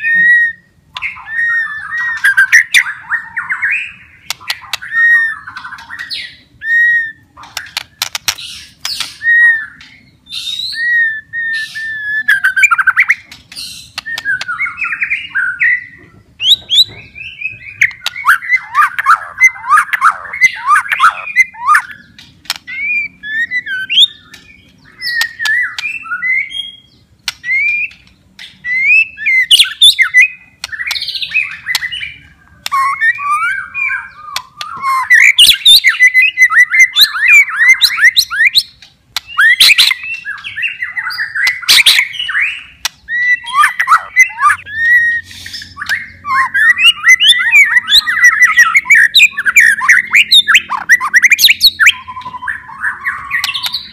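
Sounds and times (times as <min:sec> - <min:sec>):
bird singing varied song: 0:00.0 - 0:53.9.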